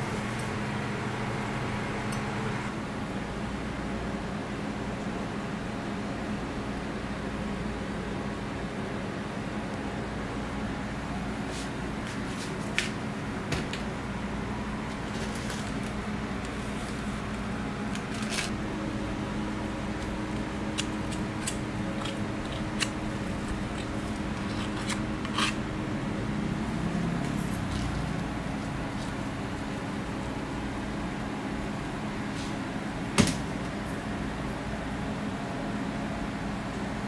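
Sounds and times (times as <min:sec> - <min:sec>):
kitchen machinery hum: 0:00.0 - 0:37.0.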